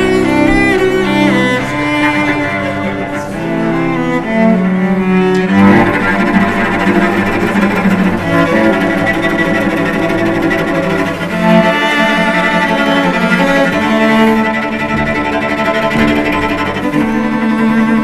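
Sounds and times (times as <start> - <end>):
cellos bowed: 0.0 - 18.0.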